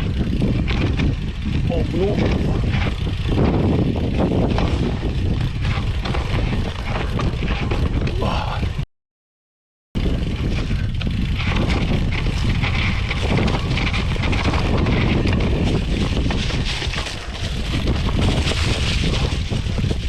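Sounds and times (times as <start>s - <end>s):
bike rattling on gravel: 0.0s - 8.8s, 10.0s - 20.0s
wind buffeting microphone: 0.0s - 8.8s, 10.0s - 20.0s.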